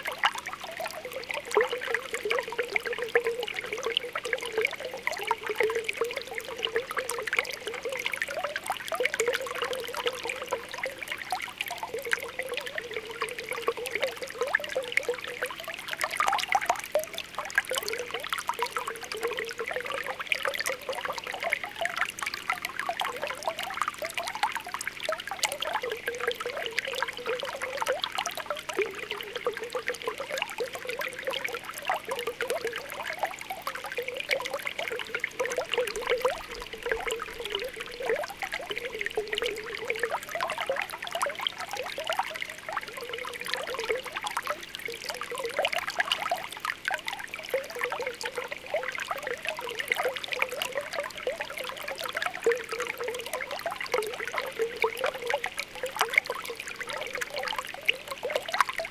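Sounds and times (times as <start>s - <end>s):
spring water bubbling: 0.0s - 58.9s
water trickling: 0.0s - 58.9s.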